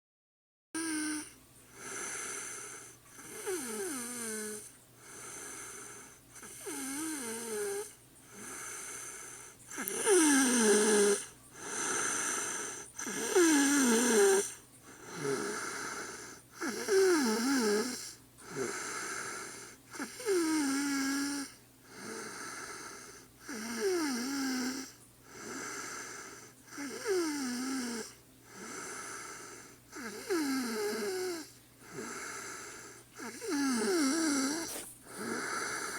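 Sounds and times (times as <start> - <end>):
woman snoring: 0.8 - 35.9.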